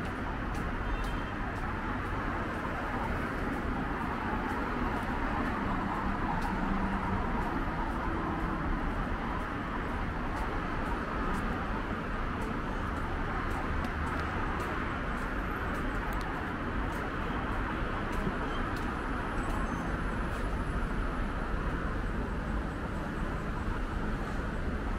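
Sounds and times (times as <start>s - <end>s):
cars running along road: 0.0s - 24.9s.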